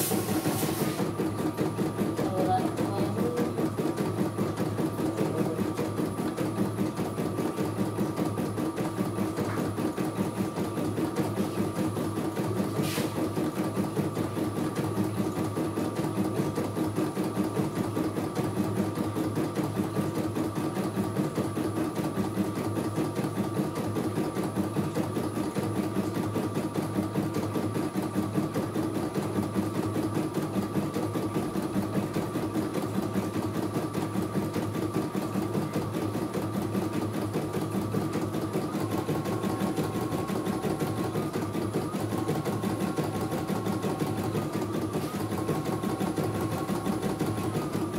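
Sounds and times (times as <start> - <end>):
embroidery machine stitching: 0.0 - 47.9.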